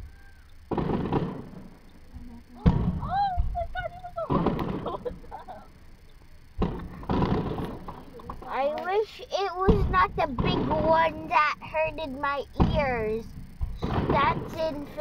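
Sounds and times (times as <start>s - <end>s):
distant fireworks booming: 0.6s - 8.6s, 9.6s - 15.0s.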